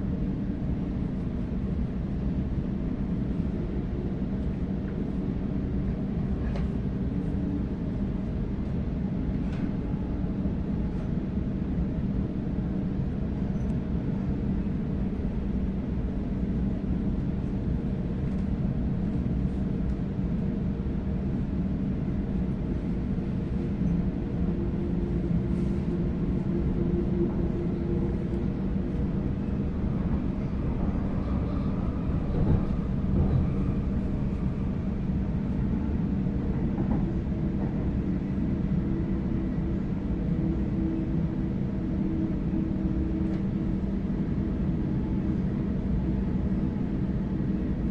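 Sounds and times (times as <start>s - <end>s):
train wheels rumbling on track: 0.0s - 47.9s.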